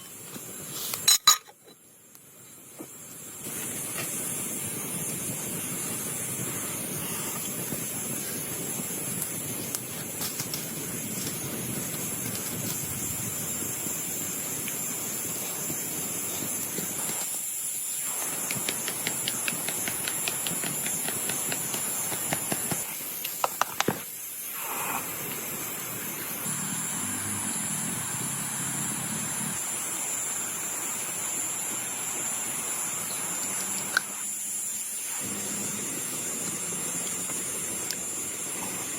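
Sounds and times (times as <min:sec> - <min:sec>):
heavy rain hissing: 0:03.1 - 0:23.4, 0:24.0 - 0:38.9.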